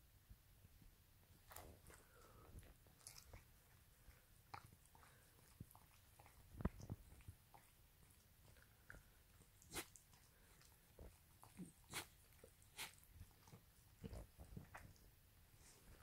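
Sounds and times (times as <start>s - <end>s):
dog licking: 1.4s - 15.2s.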